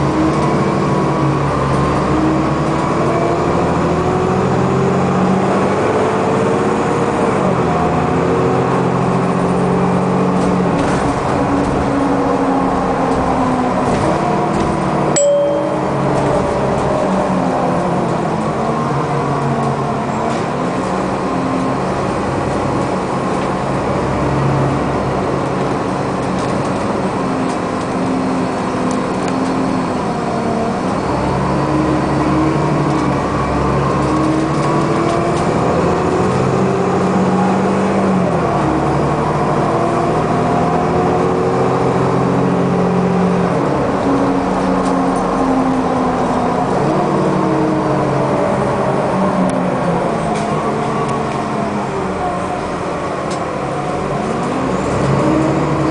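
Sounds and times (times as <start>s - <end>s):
bus engine running: 0.0s - 55.9s.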